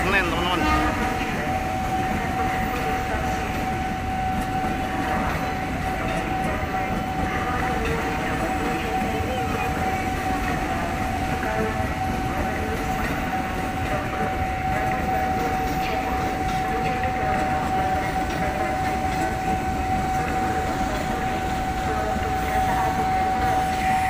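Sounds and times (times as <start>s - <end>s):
electric train rumbling past: 0.0s - 24.0s.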